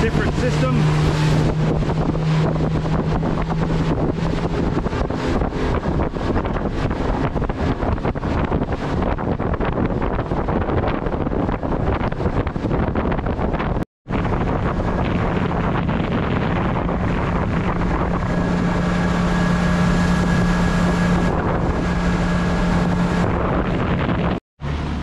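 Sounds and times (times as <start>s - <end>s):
outboard motor humming: 0.0s - 25.0s
wind buffeting microphone: 0.0s - 25.0s.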